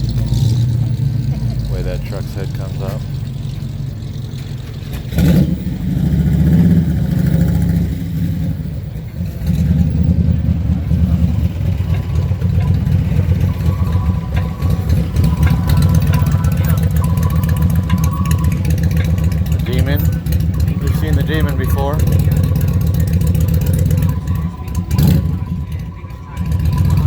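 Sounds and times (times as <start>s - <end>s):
car engine rumbling and revving: 0.0s - 27.0s.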